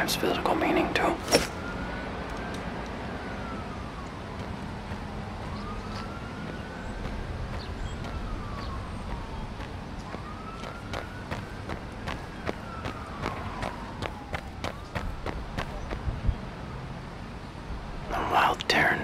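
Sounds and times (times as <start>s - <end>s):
low city rumble: 0.0s - 19.0s
emergency siren wailing: 0.9s - 18.0s.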